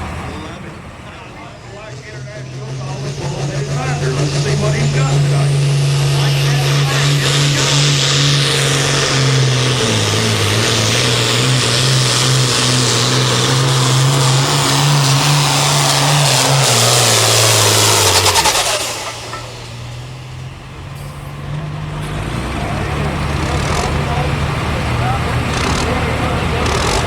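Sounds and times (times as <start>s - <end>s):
diesel tractor engine under load: 0.0s - 27.0s.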